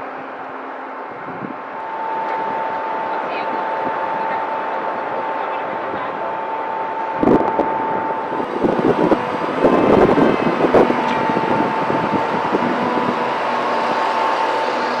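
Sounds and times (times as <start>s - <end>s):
machine whining: 0.0s - 15.0s.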